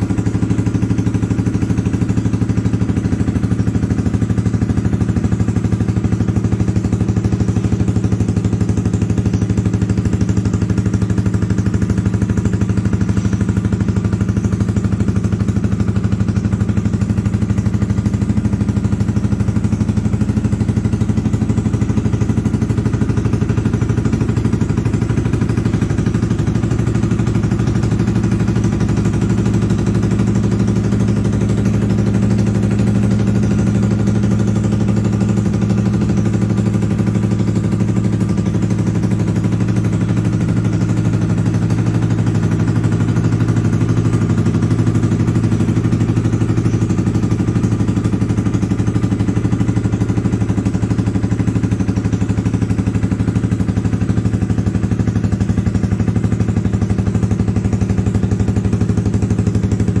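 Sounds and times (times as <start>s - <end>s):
motorcycle engine idling: 0.0s - 60.0s.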